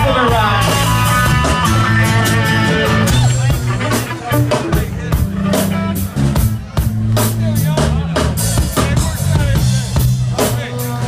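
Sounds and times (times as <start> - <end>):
live rock band: 0.0 - 11.0.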